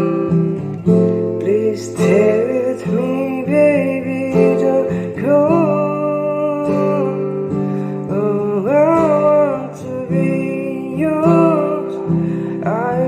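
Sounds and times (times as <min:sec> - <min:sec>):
person singing a slow ballad: 0:00.0 - 0:13.0
strummed acoustic guitar: 0:00.0 - 0:13.0.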